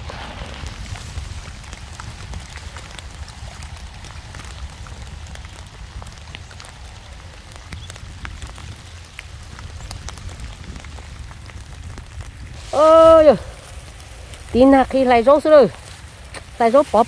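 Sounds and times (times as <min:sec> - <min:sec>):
rain falling: 0:00.0 - 0:17.0
raindrops ticking sharply: 0:00.0 - 0:17.0.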